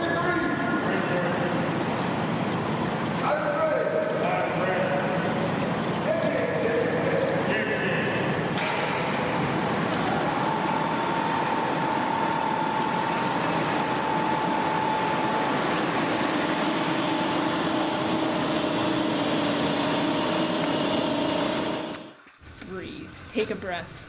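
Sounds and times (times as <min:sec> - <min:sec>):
faint machine hum: 0:00.0 - 0:24.0.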